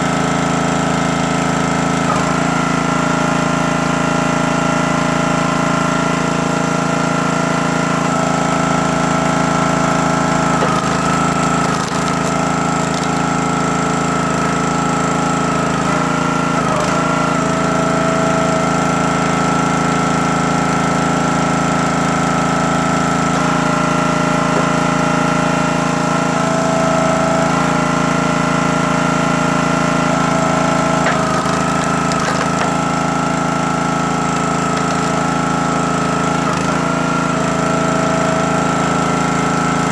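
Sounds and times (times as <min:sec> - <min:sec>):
hydraulic pump whine: 0:00.0 - 0:39.9
small gas engine running: 0:00.0 - 0:39.9.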